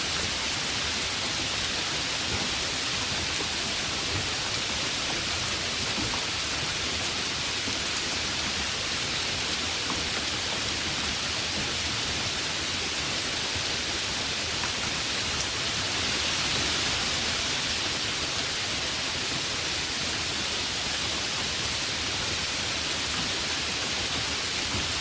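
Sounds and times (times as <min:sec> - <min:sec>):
heavy rain falling: 0:00.0 - 0:25.0
rain patters on surfaces: 0:00.0 - 0:25.0.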